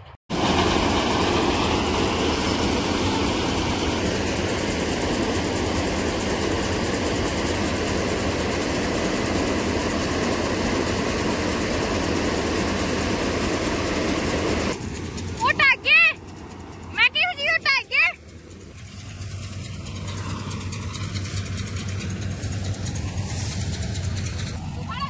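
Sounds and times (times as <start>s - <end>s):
combine harvester engine drone: 0.0s - 25.0s
grain pouring hiss: 0.3s - 14.8s, 18.7s - 24.5s.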